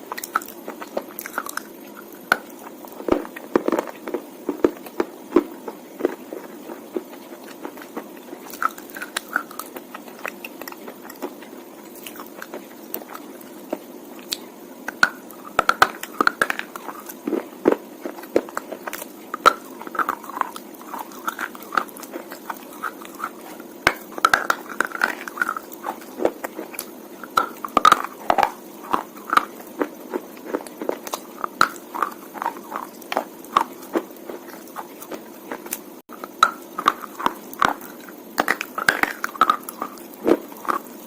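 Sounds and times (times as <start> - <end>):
slate being chewed crunching: 0.0 - 40.9.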